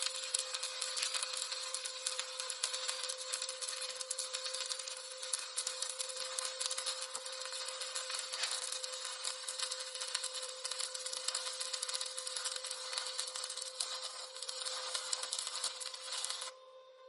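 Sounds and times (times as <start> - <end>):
welding arc crackling: 0.0 - 16.5.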